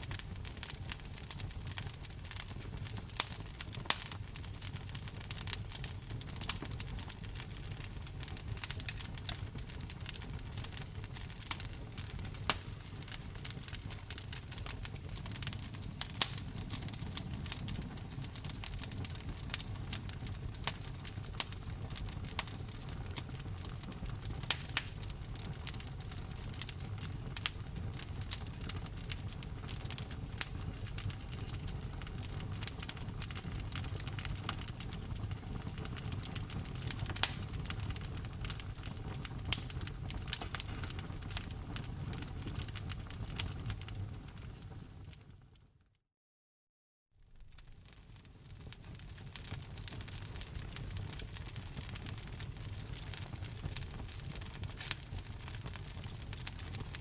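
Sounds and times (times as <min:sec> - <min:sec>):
wood fire crackling: 0:00.0 - 0:45.4, 0:47.2 - 0:57.0.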